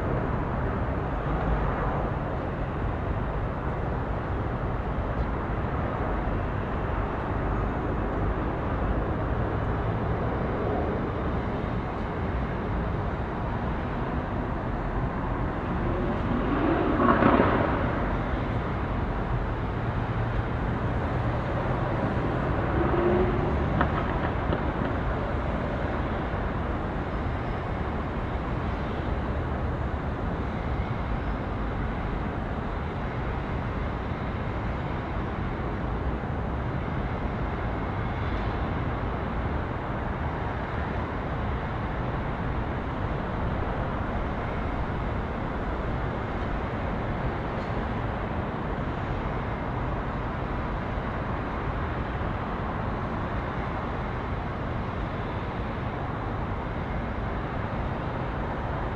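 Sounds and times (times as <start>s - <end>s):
deep traffic rumble: 0.0s - 58.9s.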